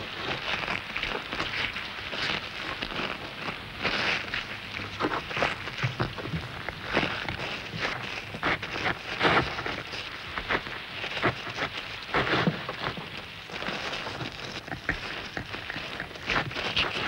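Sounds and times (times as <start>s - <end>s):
beetles crackling and scraping: 0.0s - 17.0s.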